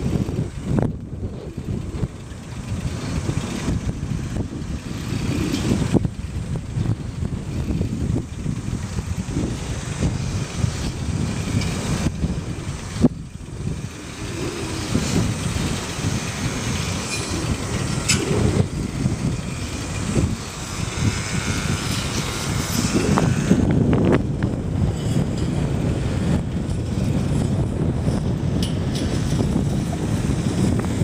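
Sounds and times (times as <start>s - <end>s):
wind and road rumble: 0.0s - 31.0s.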